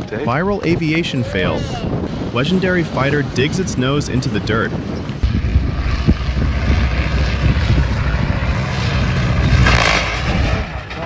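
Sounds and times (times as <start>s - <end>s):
propeller aircraft engine rumble: 0.0s - 11.0s
wind noise on microphone: 0.0s - 11.0s.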